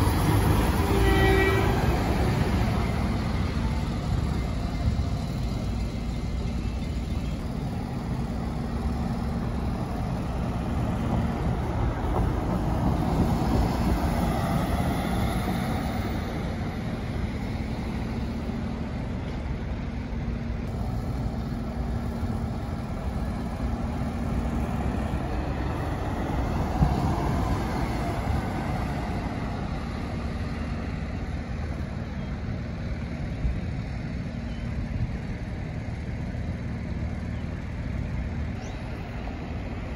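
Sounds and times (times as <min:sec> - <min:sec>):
bus engine rumble: 0:00.0 - 0:39.9
vehicles passing: 0:00.0 - 0:39.9.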